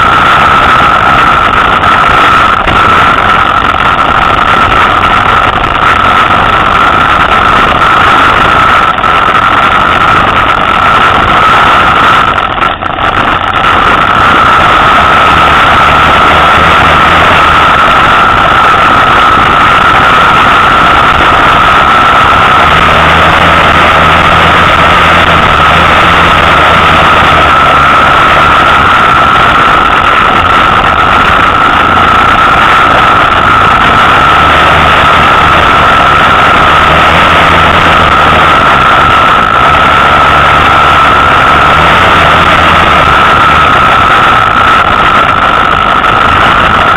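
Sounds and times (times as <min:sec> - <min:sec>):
deeper hum: 0:00.0 - 0:46.9
motorcycle engine high drone: 0:00.0 - 0:46.9.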